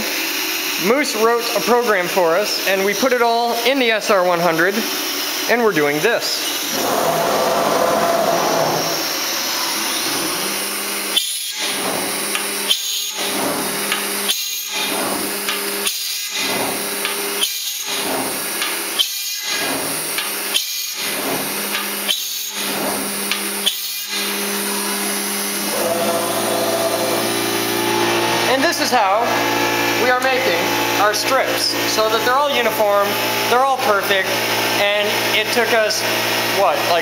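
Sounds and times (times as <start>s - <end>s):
router spindle humming: 6.1s - 36.9s
sharp drilling sound: 6.2s - 36.7s.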